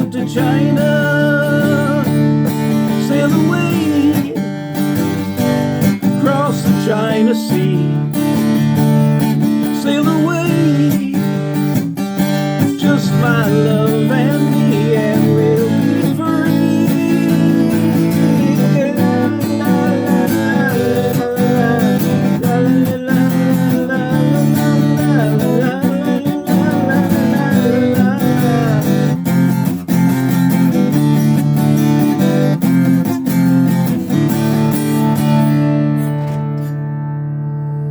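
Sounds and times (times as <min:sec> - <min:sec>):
strummed acoustic guitar: 0:00.0 - 0:37.9.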